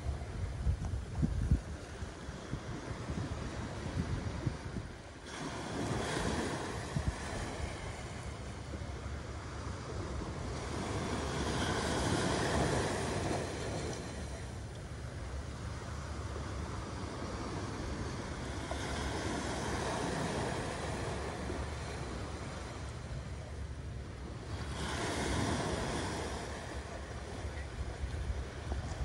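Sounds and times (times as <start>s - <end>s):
waves washing onto sandy beach: 0.0s - 29.0s
wind rumbling on microphone: 0.0s - 29.0s.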